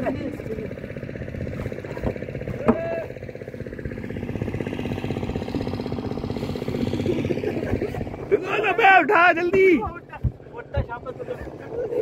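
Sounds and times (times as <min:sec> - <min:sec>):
boat engine running at low revs: 0:00.0 - 0:12.0.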